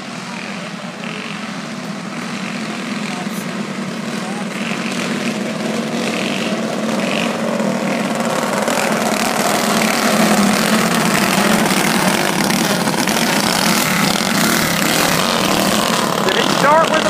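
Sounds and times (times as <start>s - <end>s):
go-kart engines running: 0.0s - 17.0s.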